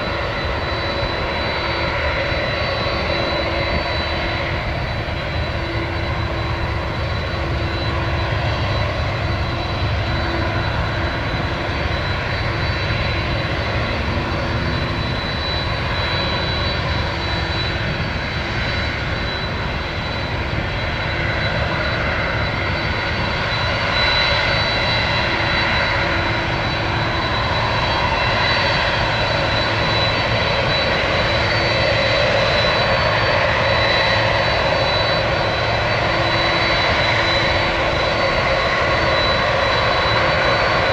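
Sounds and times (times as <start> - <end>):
high jet whine: 0.0 - 40.9
jet engines rumbling: 0.0 - 40.9.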